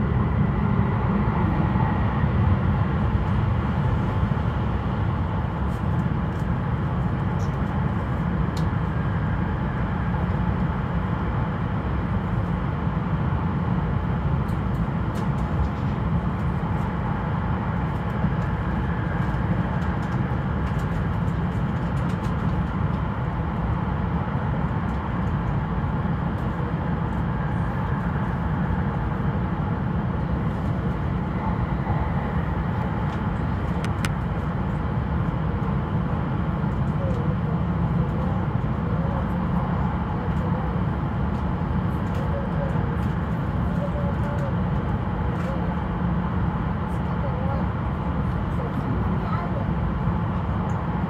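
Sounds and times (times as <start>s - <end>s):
train low rumble from inside: 0.0s - 51.0s.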